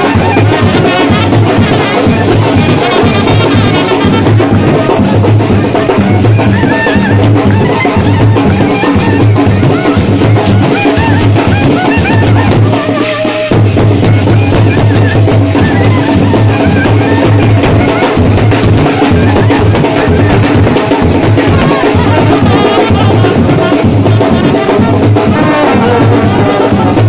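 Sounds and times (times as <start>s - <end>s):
loud drum beat: 0.0s - 27.0s
trumpet and clarinet melody: 0.0s - 27.0s.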